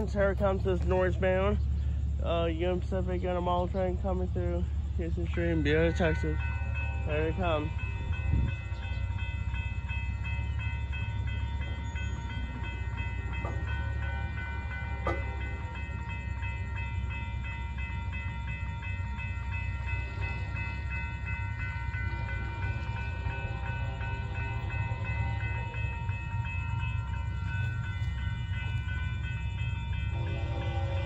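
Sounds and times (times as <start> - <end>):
crossing warning bell ringing: 0.0 - 31.0
low steady rumble: 0.0 - 31.0.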